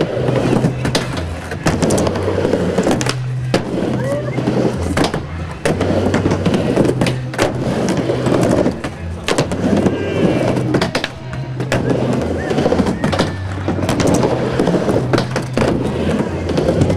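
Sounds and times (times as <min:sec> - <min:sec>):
skateboard clacking on coping: 0:00.0 - 0:16.9
skateboard wheels rolling: 0:00.0 - 0:16.9.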